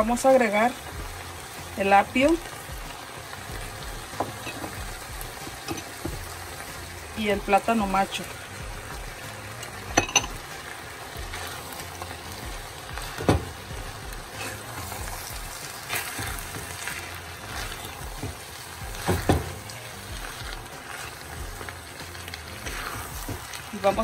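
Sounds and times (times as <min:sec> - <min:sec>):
filling sizzling in a clay pot: 0:00.0 - 0:24.0.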